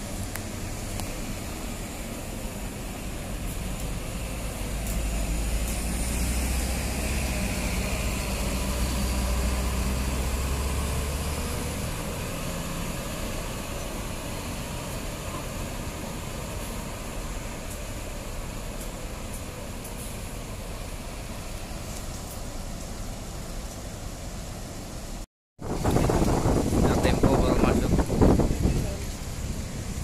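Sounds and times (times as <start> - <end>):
coach diesel engine driving past: 0.0 - 25.0.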